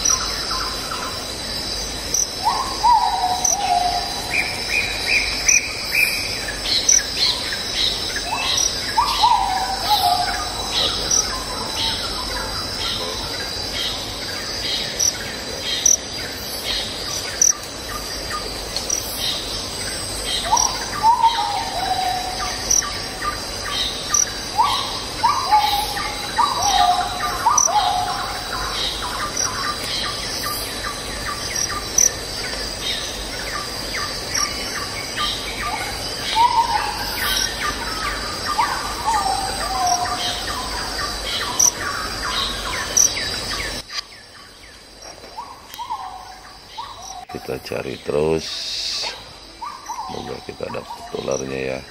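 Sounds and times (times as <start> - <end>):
insect drone: 0.0 - 51.9.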